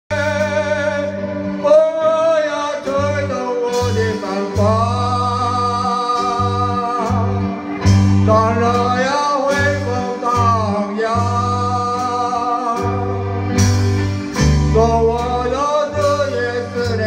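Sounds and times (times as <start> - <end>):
gliding lead melody: 0.1 - 17.0
low bass notes: 0.1 - 17.0.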